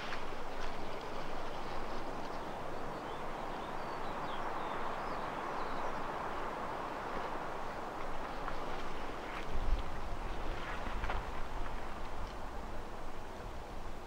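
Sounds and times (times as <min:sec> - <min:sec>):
wind in woodland: 0:00.0 - 0:14.0.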